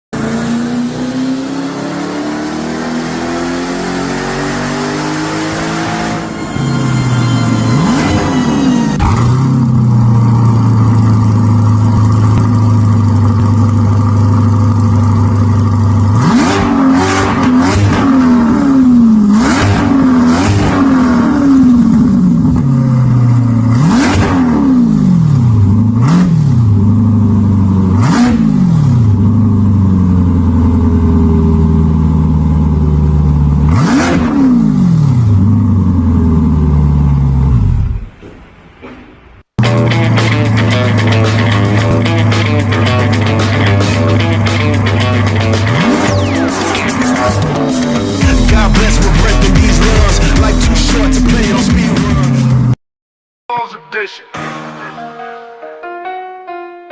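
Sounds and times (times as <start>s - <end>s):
sports car engine idling and revving: 0.2s - 38.4s, 39.6s - 52.8s.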